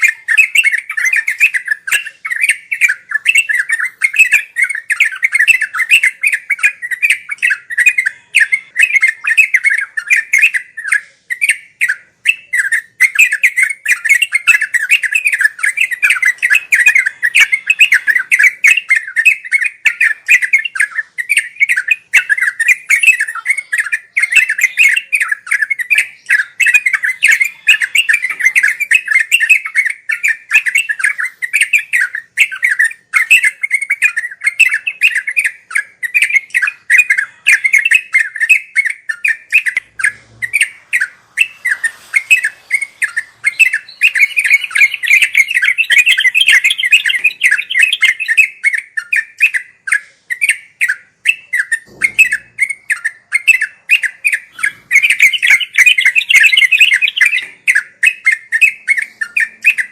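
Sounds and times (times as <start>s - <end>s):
bird chattering chirps: 0.0s - 59.9s.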